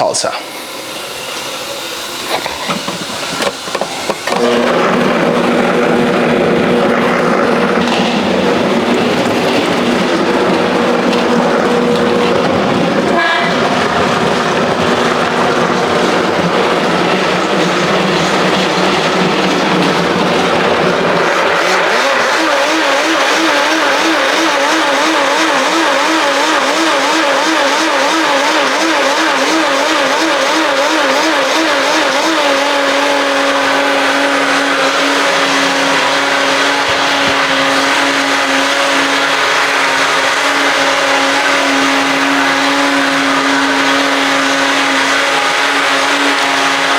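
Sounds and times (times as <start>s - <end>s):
blender motor running: 0.0s - 46.9s.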